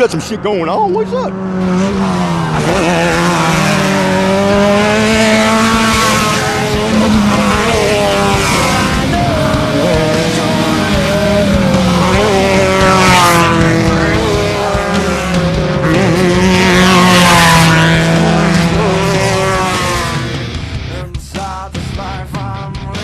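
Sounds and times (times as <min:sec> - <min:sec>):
race vehicle engine running hard: 0:00.0 - 0:23.0.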